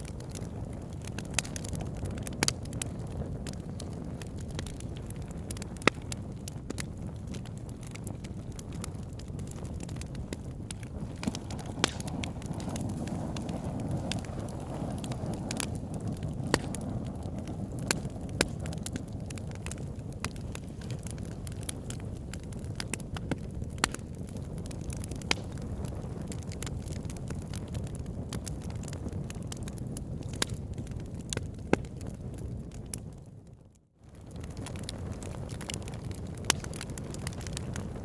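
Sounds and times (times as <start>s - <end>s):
loud fire pops: 0.0s - 33.2s, 34.1s - 38.0s
wood fire crackling: 0.0s - 38.0s.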